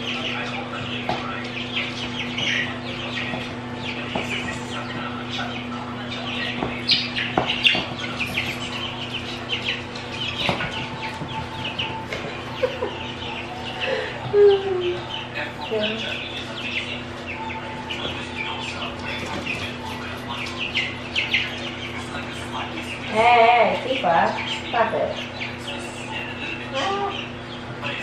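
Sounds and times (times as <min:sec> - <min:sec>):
chicks peeping: 0:00.0 - 0:28.0
steady hum: 0:00.0 - 0:28.0.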